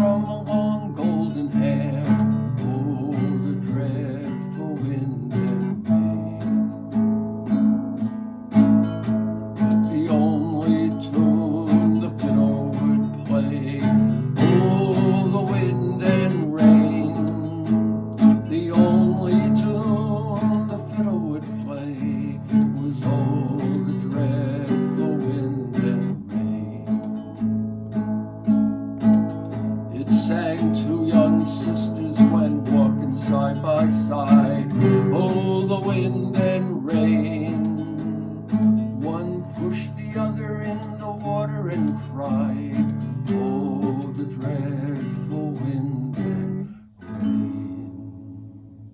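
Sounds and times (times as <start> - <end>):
acoustic guitar strummed and picked: 0.0 - 48.9.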